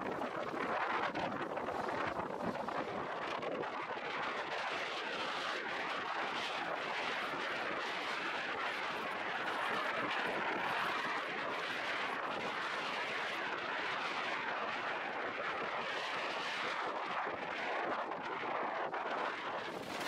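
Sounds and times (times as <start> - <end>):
rushing wind and sea: 0.0 - 20.0.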